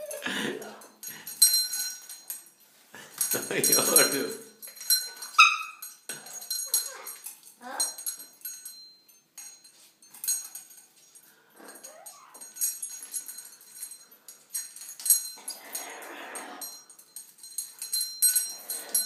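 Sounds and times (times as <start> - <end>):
metal rings and bell jingling: 0.0 - 19.0.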